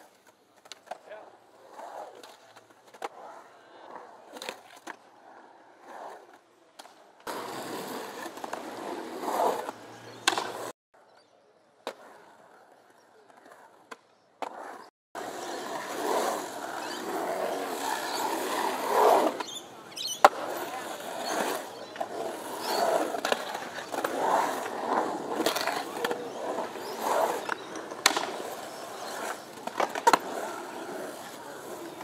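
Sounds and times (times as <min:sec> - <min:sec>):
skateboard clacks: 0:00.0 - 0:01.2, 0:06.3 - 0:10.7, 0:11.8 - 0:32.0
skateboard wheels rolling on concrete: 0:00.0 - 0:32.0.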